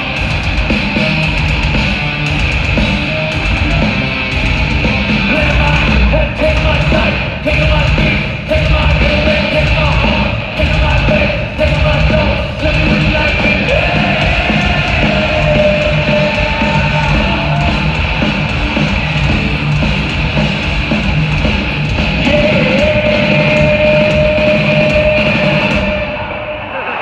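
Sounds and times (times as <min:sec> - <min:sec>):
heavy metal band playing live: 0:00.0 - 0:27.0.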